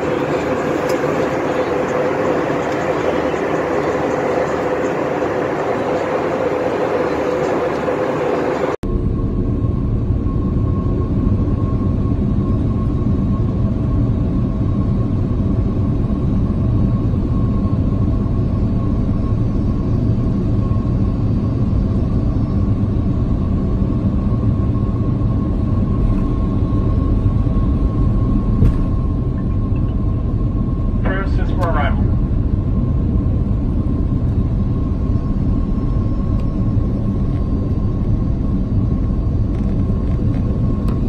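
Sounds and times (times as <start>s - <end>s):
airliner cabin rumble: 0.0s - 41.0s
jet engine whine: 0.0s - 41.0s.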